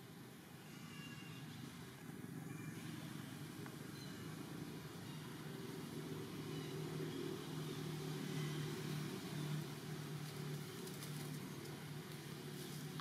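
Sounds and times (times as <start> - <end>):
low engine hum: 1.6 - 13.0.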